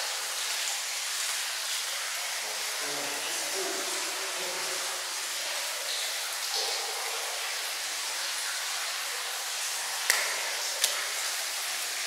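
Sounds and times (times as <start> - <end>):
water running hiss: 0.0 - 12.0.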